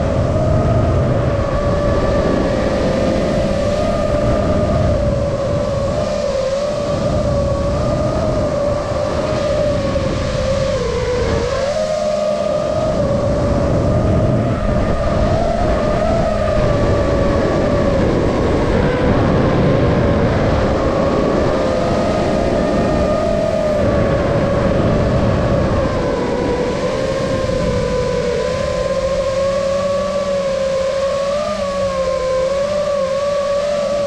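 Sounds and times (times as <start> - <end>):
low rumble of air noise: 0.0 - 34.0.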